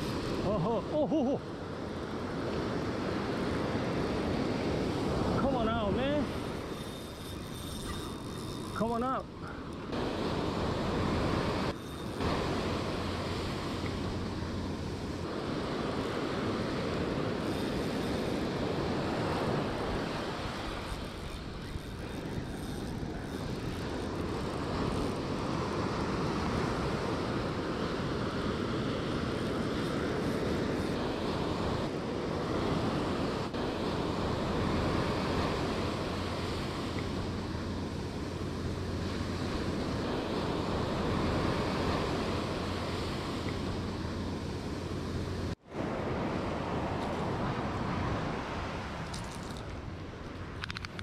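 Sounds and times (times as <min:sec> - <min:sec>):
ocean surf breaking on sand: 0:00.0 - 0:07.0, 0:08.8 - 0:50.6.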